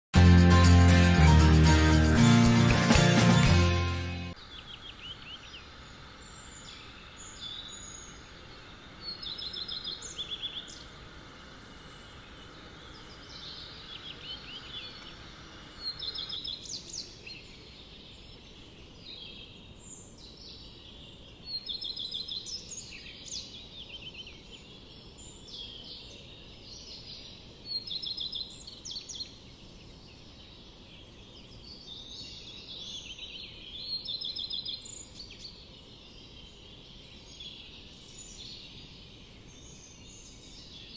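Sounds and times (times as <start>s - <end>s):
birds chirping and trilling: 2.5s - 40.9s
steady background hiss: 4.4s - 40.9s.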